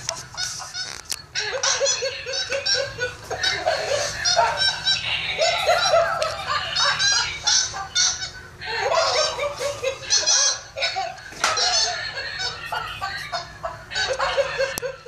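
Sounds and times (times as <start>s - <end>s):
toy monkey laughing: 0.0s - 15.0s.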